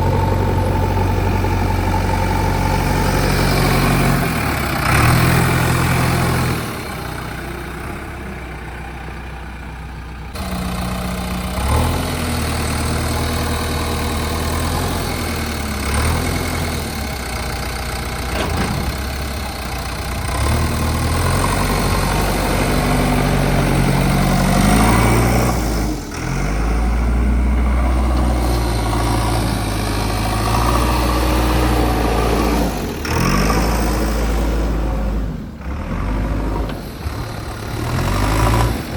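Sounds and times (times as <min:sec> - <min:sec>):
diesel engine idling and revving: 0:00.0 - 0:38.9.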